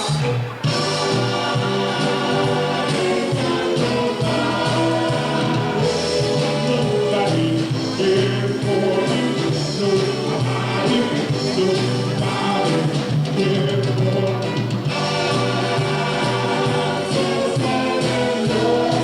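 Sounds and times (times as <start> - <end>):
live band playing: 0.0 - 19.0
several voices singing: 0.0 - 19.0
steady bass line: 0.0 - 19.0.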